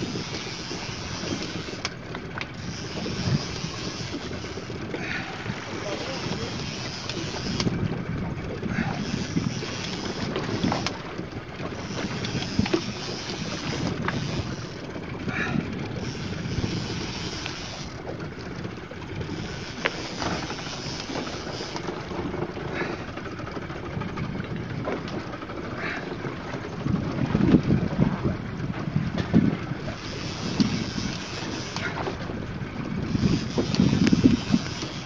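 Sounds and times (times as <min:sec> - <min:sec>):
sea wash: 0:00.0 - 0:35.0
wind buffeting microphone: 0:00.0 - 0:35.0.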